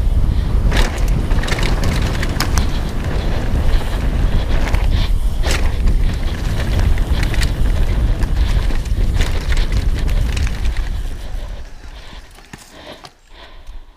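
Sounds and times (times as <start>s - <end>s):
wind buffeting microphone: 0.0s - 13.9s
tyre rumble: 0.2s - 13.8s
bike knocks and rattles: 0.4s - 13.7s.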